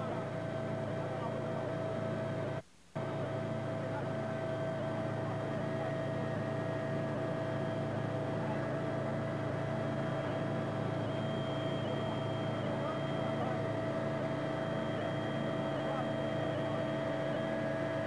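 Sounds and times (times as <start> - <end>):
engine drone with whine: 0.0 - 18.0.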